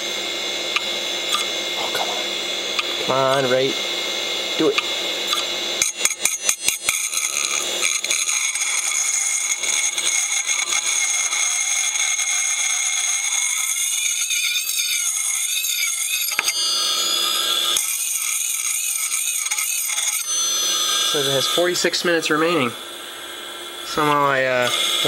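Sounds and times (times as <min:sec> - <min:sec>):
hard drive high whine: 0:00.0 - 0:14.1, 0:16.2 - 0:25.0.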